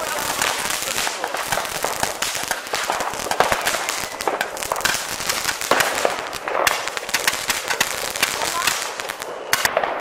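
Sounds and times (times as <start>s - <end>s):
firecrackers bangs and pops: 0.0s - 10.0s.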